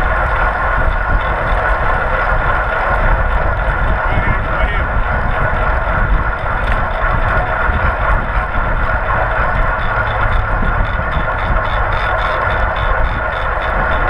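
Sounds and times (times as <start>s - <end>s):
bicycle tyres on asphalt: 0.0s - 14.0s
wind buffeting microphone: 0.0s - 14.0s.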